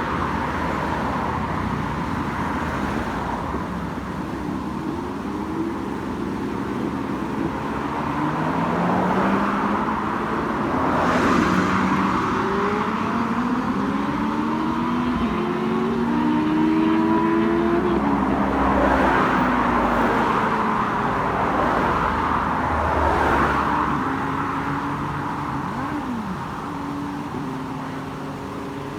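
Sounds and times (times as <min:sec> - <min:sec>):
motorcycles passing at speed: 0:00.0 - 0:28.9.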